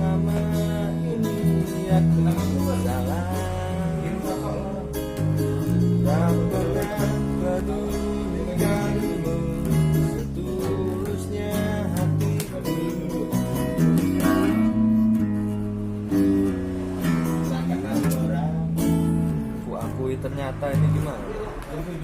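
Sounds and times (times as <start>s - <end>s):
acoustic guitar strumming chords: 0.0s - 21.3s.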